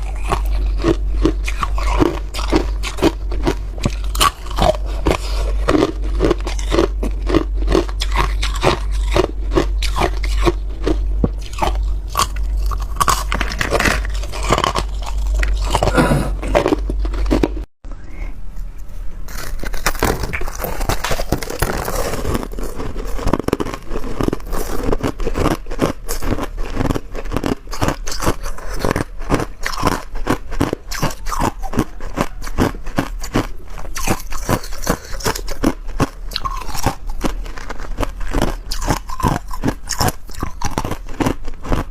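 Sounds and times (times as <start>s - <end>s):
ice being chewed crunching: 0.0s - 17.7s, 19.3s - 41.9s.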